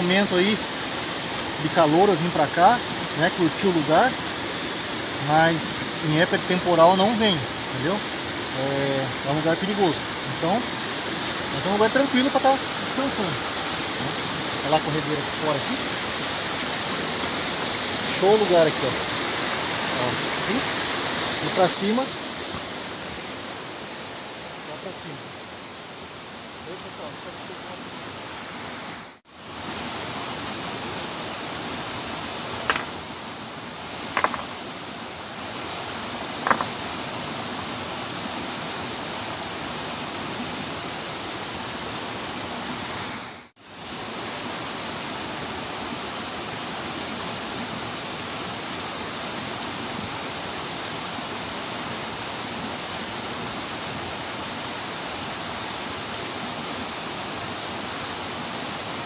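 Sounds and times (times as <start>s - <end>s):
rapids rushing: 0.0s - 59.0s.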